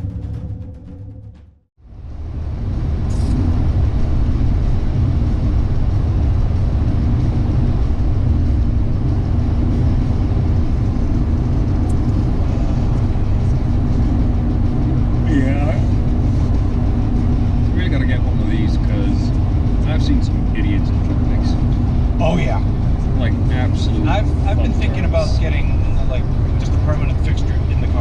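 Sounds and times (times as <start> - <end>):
car cabin road and engine rumble: 1.8 - 28.0.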